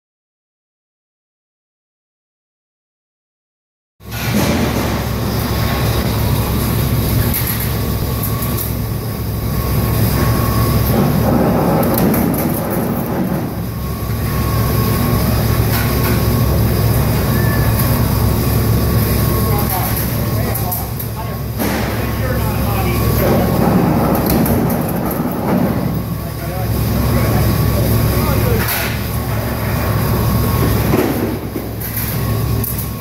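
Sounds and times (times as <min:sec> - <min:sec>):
punch press machine hum: 0:04.0 - 0:33.0
thin high machine whine: 0:04.0 - 0:33.0.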